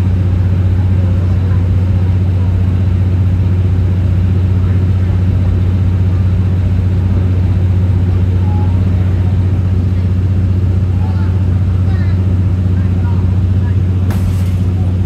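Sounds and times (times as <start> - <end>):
train diesel engine hum: 0.0 - 15.0.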